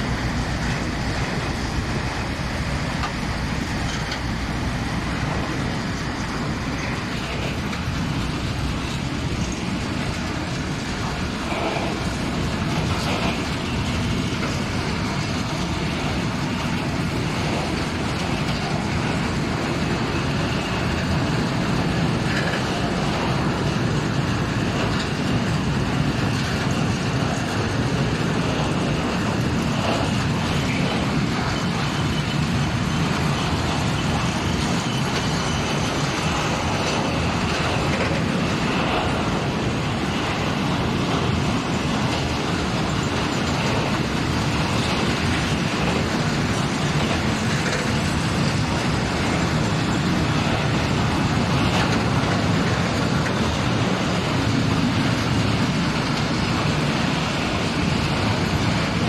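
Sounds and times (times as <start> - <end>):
freight train wheels rolling: 0.0 - 59.0.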